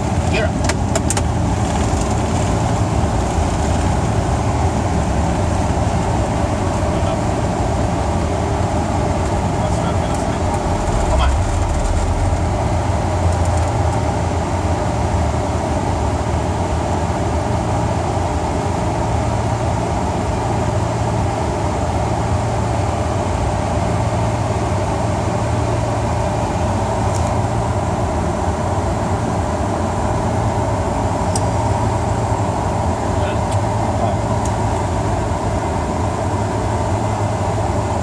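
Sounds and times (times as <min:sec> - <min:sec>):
jet engines roaring in cockpit: 0:00.0 - 0:38.0.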